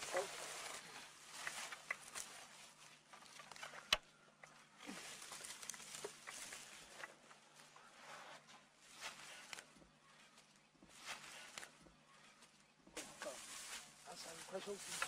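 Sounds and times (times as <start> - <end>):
rustling and scraping on sandy ground: 0.0 - 15.0.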